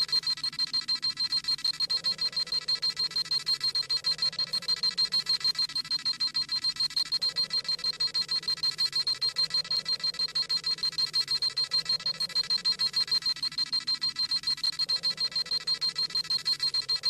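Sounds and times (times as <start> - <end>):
rapid electronic beeping: 0.0 - 17.0.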